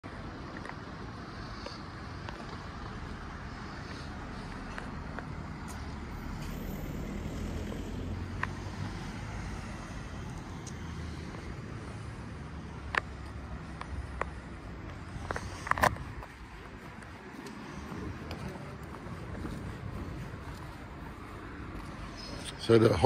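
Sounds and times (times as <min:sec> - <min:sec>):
low street rumble: 0:00.0 - 0:23.0
vehicle engine hum: 0:00.0 - 0:23.0.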